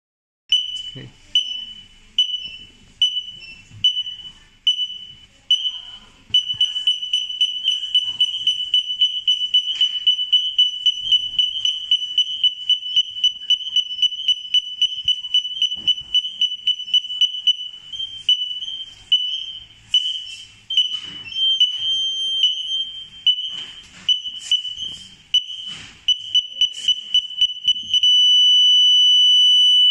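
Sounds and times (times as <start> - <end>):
parking sensor beeping: 0.5 - 29.9.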